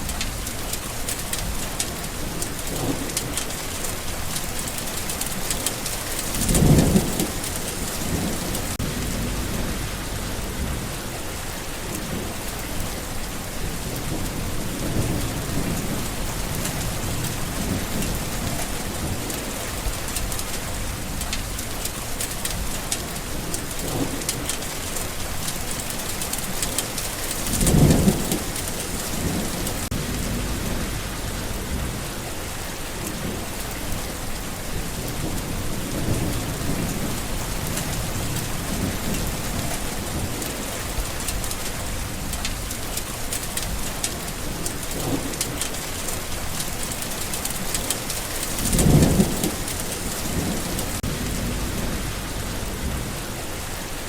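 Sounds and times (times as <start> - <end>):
heavy rain hissing: 0.0 - 54.0
thunder rumbling: 0.0 - 54.0.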